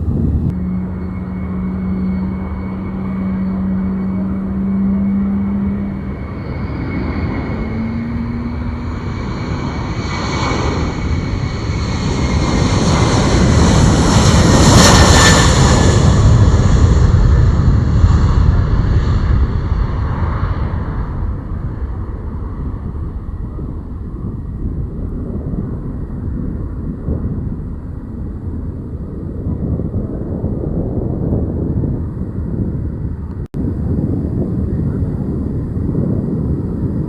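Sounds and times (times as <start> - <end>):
turboprop aircraft passing: 0.0 - 37.0.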